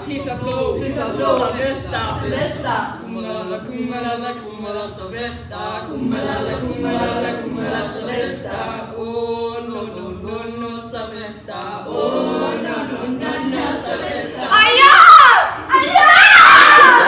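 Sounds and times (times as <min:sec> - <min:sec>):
young people singing chant-like: 0:00.0 - 0:17.0.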